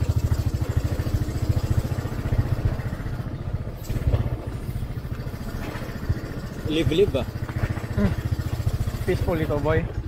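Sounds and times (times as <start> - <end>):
small motorcycle engine puttering: 0.0 - 10.0.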